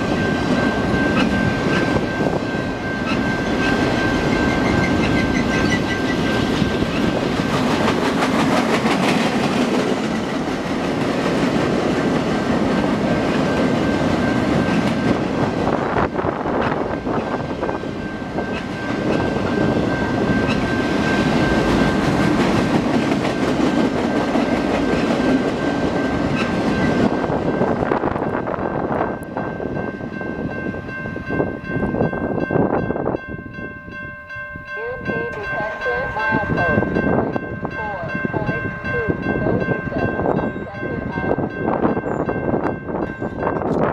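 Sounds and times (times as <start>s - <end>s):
train wheels rumbling and clattering: 0.0s - 33.4s, 34.8s - 43.9s.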